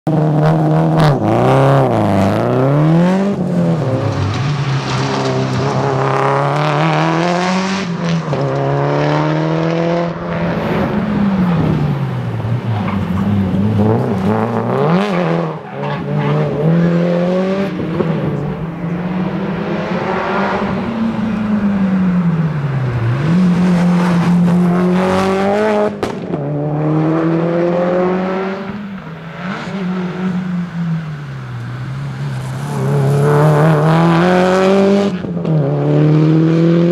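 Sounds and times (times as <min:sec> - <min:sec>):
car engine accelerating hard: 0:00.1 - 0:36.9.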